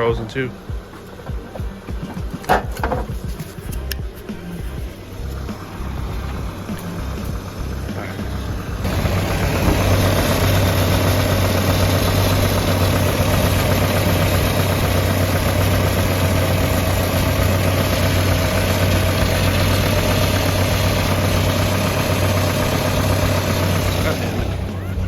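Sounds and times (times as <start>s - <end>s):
car engine idling: 0.0s - 25.0s
engine belt noise: 0.0s - 25.0s.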